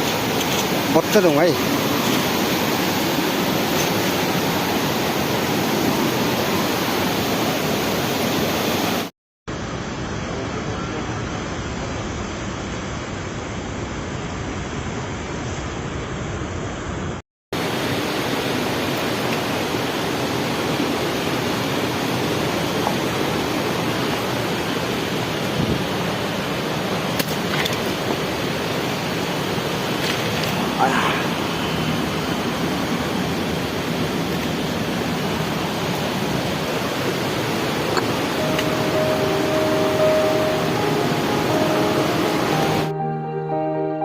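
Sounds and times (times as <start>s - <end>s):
river water rushing: 0.0s - 10.3s, 17.6s - 42.9s.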